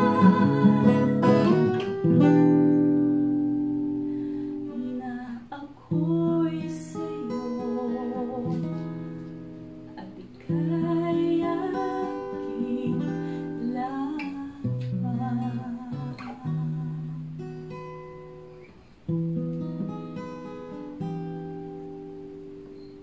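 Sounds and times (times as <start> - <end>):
acoustic guitar playing slowly: 0.0 - 23.0.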